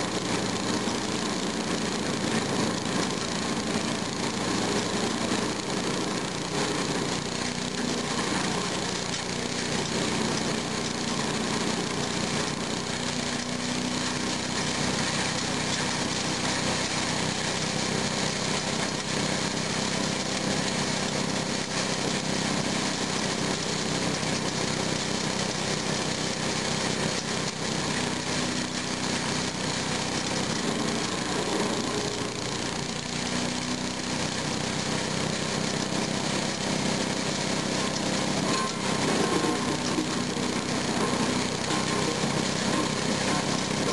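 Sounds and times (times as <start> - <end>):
chipper-shredder engine running: 0.0 - 43.9.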